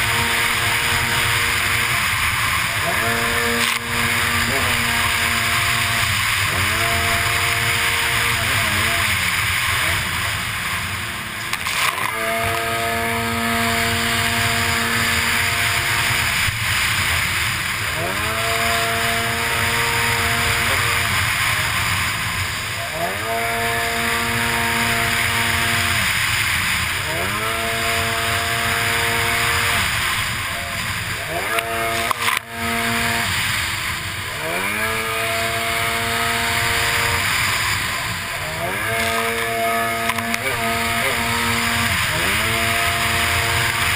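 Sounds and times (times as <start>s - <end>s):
jet ski engine revving: 0.0s - 43.9s
water spray rushing: 0.0s - 43.9s.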